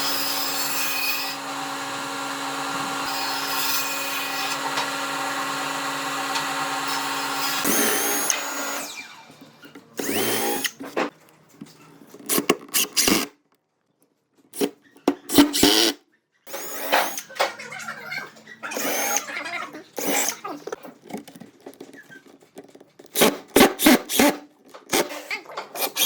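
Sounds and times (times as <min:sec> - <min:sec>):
handheld power tool whining: 0:00.0 - 0:11.0, 0:12.3 - 0:13.3, 0:14.6 - 0:22.4, 0:23.0 - 0:26.0.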